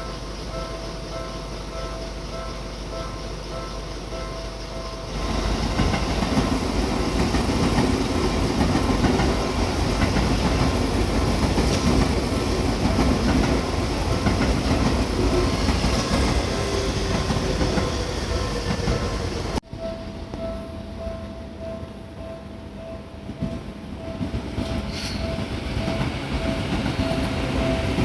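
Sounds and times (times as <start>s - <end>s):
train wheels rushing on rail: 0.0s - 19.6s, 22.8s - 28.0s
crossing warning bell ringing: 0.0s - 28.0s.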